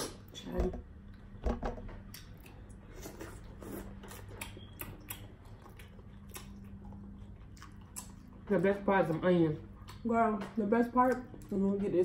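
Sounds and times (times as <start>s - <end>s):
faint steady hum: 0.0s - 12.0s
people chewing food: 2.0s - 12.0s.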